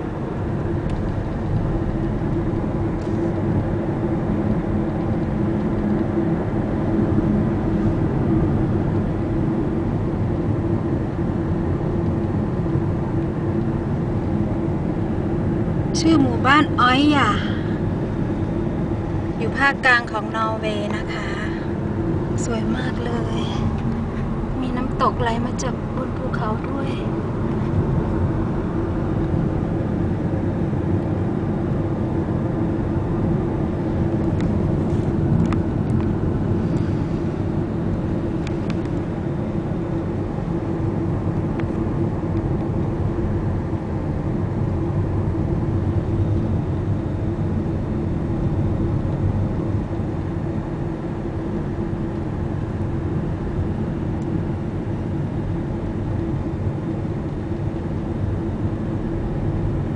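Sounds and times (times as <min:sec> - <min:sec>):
car engine and tyres rumbling: 0:00.0 - 0:59.9
low hum: 0:00.0 - 0:59.9.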